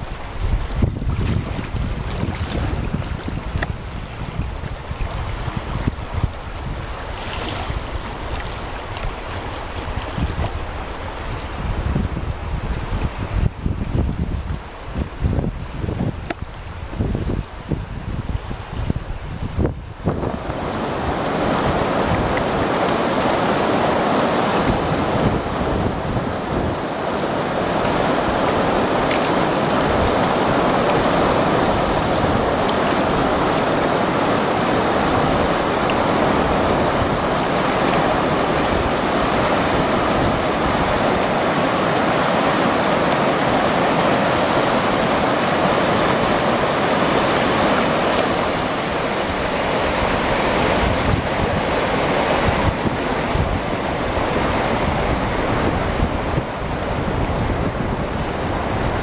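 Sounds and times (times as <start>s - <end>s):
creek rapids rushing: 0.0s - 59.0s
wind buffeting microphone: 0.0s - 59.0s.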